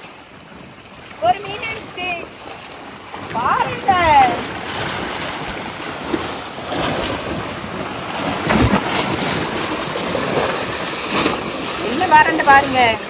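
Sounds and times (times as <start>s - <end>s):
waves splashing against rocks: 0.0s - 13.0s
wind buffeting microphone: 0.5s - 13.0s.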